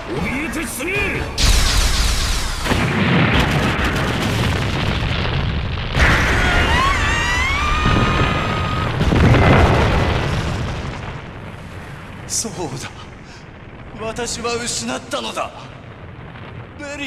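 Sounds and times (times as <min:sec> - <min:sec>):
pyrotechnic explosions: 0:00.0 - 0:17.0.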